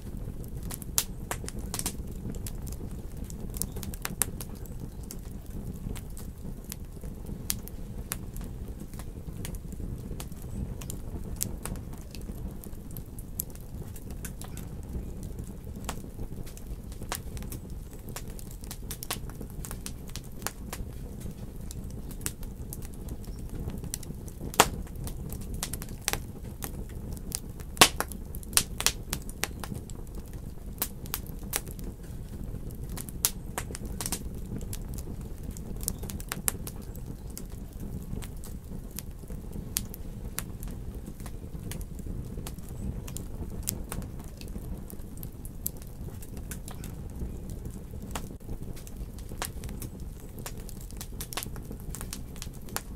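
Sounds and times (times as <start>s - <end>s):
fire crackles and pops: 0.0s - 52.9s
fire rumbling: 0.0s - 52.9s.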